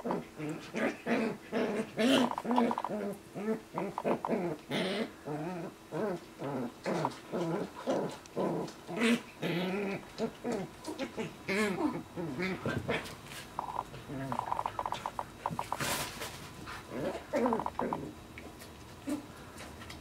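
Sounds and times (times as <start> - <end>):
dogs growling and whining: 0.0 - 15.7, 16.9 - 18.2.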